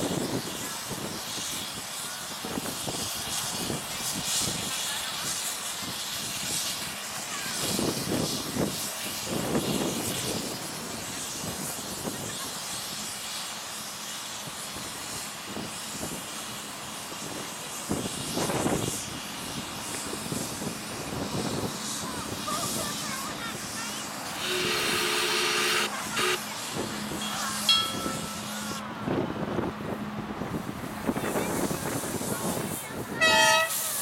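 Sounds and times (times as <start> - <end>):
steam locomotive hissing: 0.0 - 34.0.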